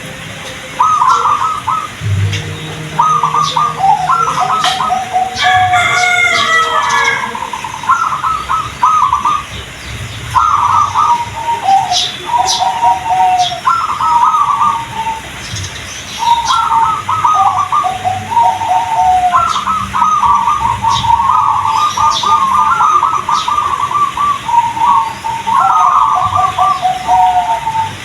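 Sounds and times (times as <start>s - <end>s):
dove cooing: 0.0s - 15.5s, 16.2s - 28.0s.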